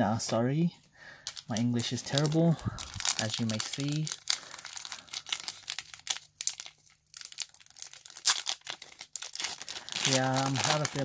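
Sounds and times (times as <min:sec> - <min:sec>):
foil wrapper crinkling and tearing: 0:01.2 - 0:11.0.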